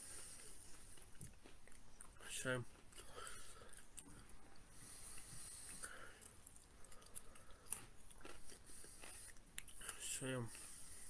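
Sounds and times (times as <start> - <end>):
person chewing crunchy snack: 0.1 - 10.1.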